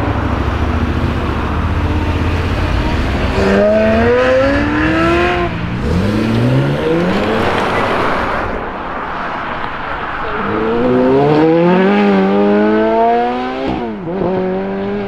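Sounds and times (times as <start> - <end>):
sports car engine accelerating: 0.0 - 8.5, 10.2 - 15.0.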